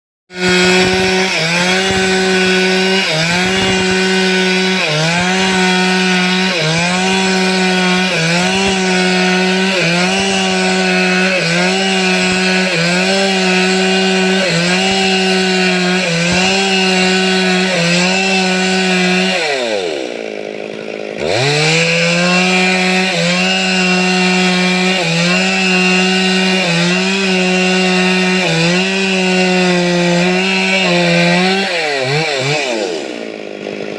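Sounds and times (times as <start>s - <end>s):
chainsaw running at high revs: 0.3s - 33.9s.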